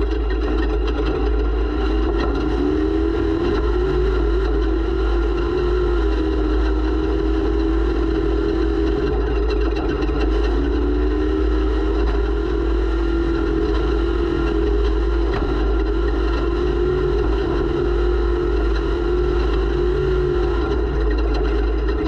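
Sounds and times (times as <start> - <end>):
race vehicle engine running hard: 0.0 - 22.0.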